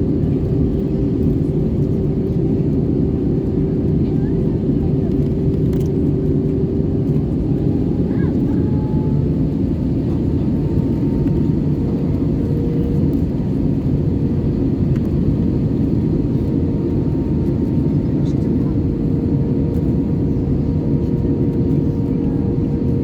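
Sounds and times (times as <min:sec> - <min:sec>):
airplane cabin roar: 0:00.0 - 0:23.0.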